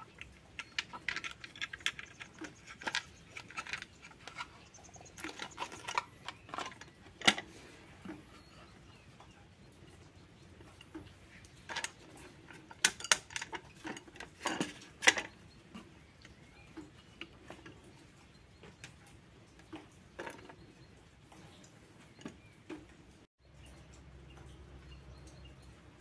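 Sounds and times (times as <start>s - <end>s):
thin plastic clicking and crinkling: 0.0s - 8.4s, 10.6s - 23.2s.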